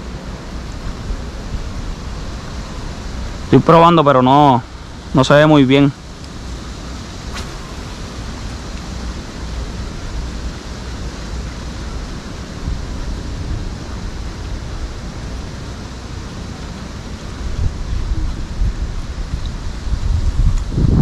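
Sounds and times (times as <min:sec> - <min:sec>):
wind blowing across microphone: 0:00.0 - 0:21.0.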